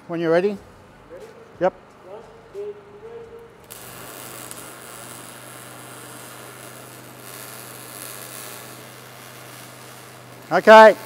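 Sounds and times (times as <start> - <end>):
welding arc hissing and crackling: 0.4 - 11.0.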